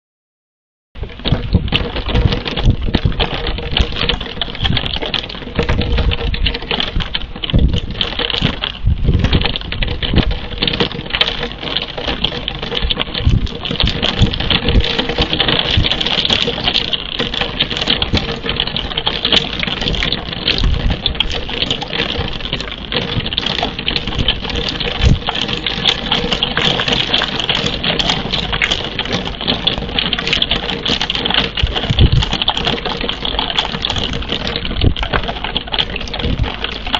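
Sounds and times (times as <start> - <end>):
heavy raindrop thumps: 1.0 - 36.9
rain crackling on microphone: 1.0 - 36.9.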